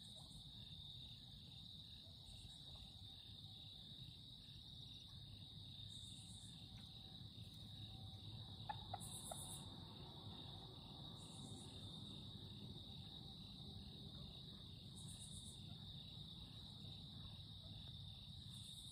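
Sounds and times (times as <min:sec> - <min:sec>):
insects trilling: 0:00.0 - 0:18.9.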